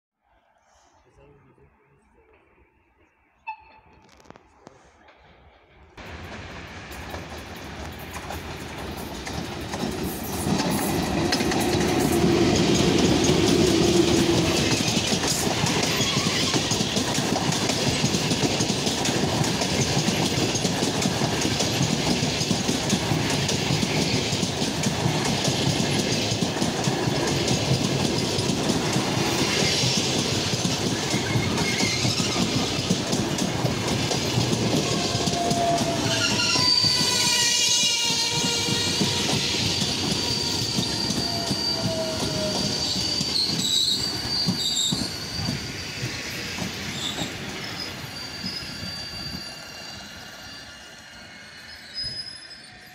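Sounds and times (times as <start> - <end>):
electric locomotive passing: 1.1 - 52.9.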